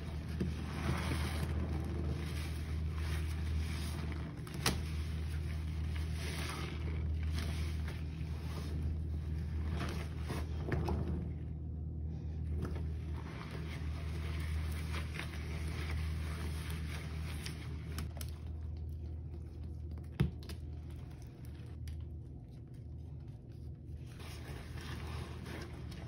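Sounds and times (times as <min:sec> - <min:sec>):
sponge squelching in water: 0:00.0 - 0:11.7, 0:12.4 - 0:26.0
steady low hum: 0:00.0 - 0:26.0.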